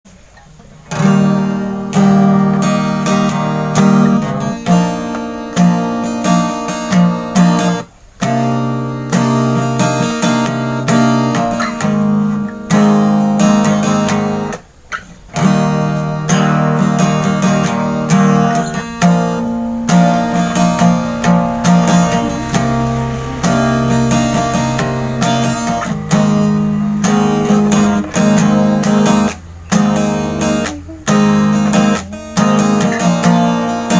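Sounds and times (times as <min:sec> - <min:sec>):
acoustic guitar strumming chords: 0:00.1 - 0:33.9.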